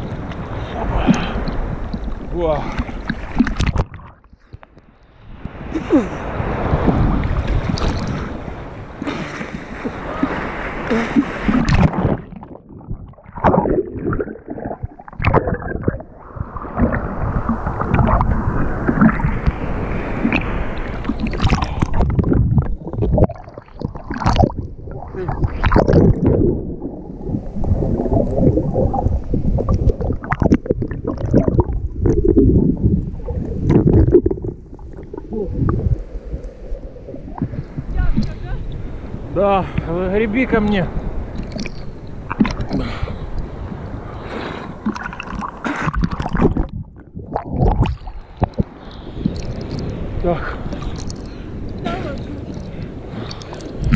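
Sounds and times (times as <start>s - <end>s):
sea water splashing: 0.0s - 53.9s.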